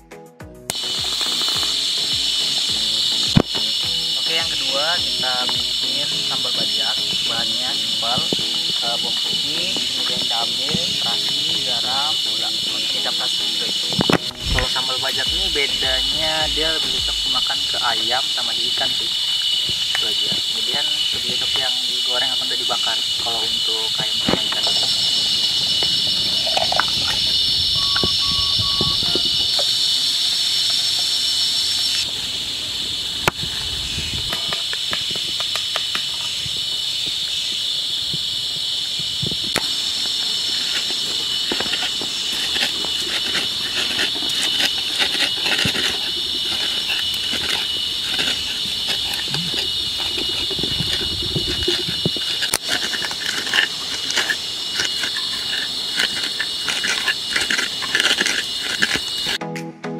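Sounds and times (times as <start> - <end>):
forest insects droning: 0.0 - 59.4
stone pestle grinding and pounding: 0.7 - 31.1, 33.3 - 36.8, 39.2 - 59.4.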